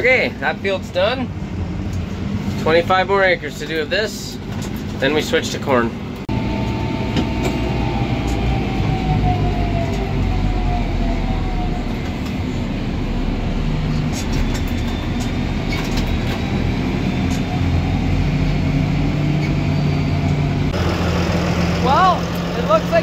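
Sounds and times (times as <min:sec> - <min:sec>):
tractor engine drone: 0:00.0 - 0:23.0
tyre and road noise: 0:00.0 - 0:23.0.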